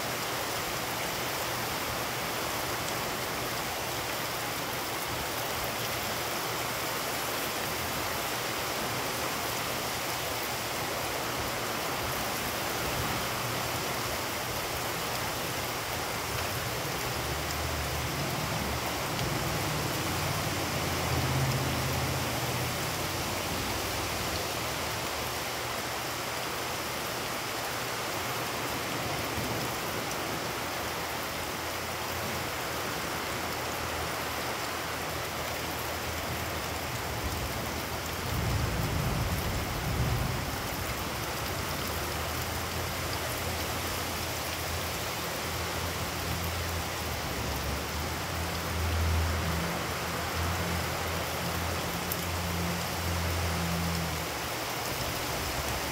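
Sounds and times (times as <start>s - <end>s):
heavy rain on wet pavement: 0.0s - 55.9s.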